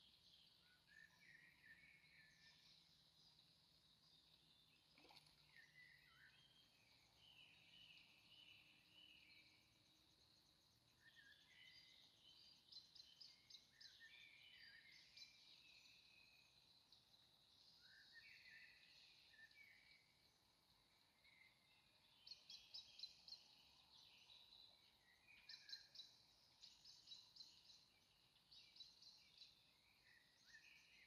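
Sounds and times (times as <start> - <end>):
songbirds chirping and whistling: 0.0 - 4.8, 5.4 - 20.5, 21.2 - 31.0.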